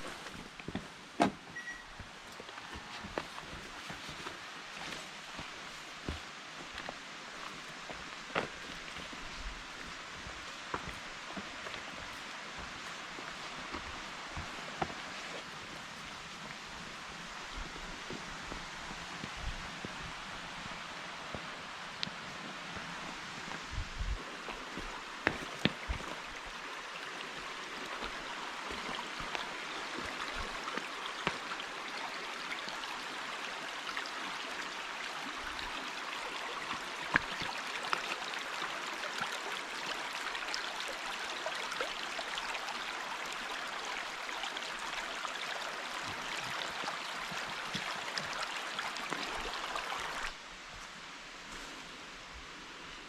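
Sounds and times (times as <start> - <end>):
forest stream babbling: 0.0 - 53.0.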